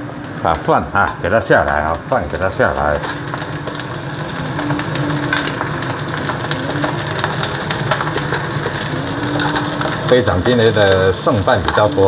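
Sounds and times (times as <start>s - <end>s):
rice sizzling in a pan: 0.7s - 12.0s.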